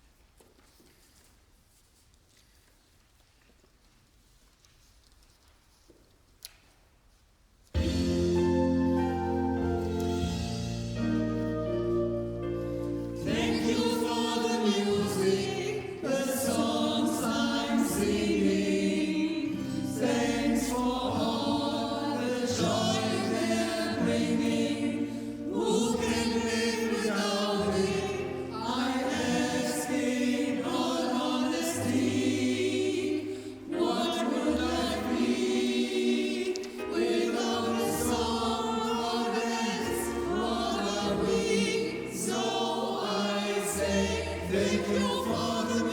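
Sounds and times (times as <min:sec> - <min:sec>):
choir singing: 0:07.8 - 0:45.9.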